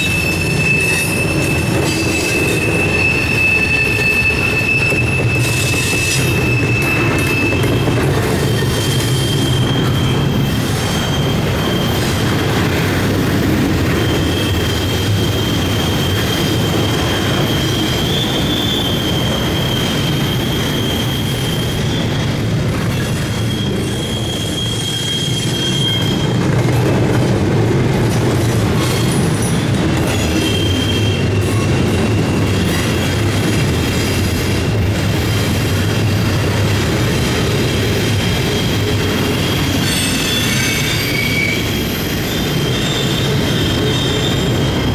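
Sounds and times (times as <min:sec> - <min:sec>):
wheels squealing on curve: 0:00.0 - 0:26.6, 0:29.0 - 0:34.7, 0:37.1 - 0:44.9
freight train rumbling past: 0:00.0 - 0:44.9.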